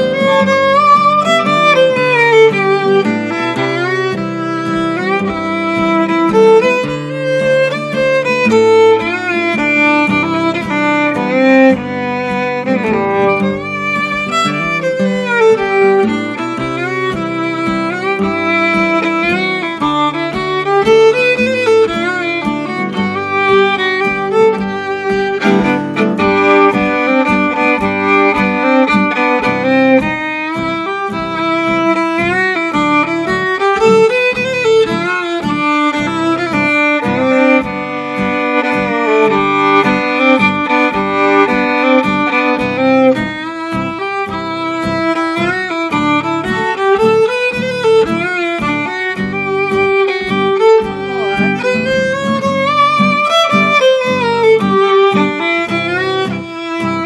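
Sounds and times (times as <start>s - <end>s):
acoustic guitar strumming: 0.0s - 57.0s
fiddle melody: 0.0s - 57.0s.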